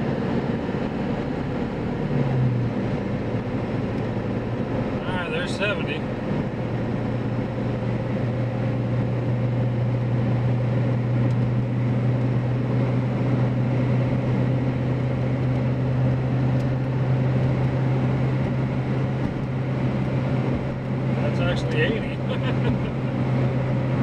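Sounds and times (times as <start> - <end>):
diesel engine: 0.0 - 24.0
road rush: 0.0 - 24.0
tire tread hum: 0.0 - 24.0.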